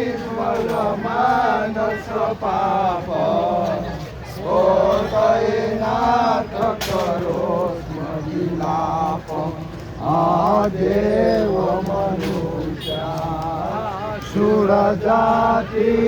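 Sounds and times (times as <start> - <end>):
man chanting a devotional hymn: 0.0 - 16.0.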